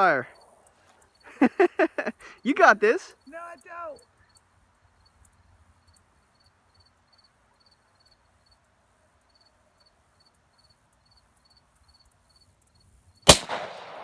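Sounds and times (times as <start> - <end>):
faint cricket chirping: 0.0 - 13.3.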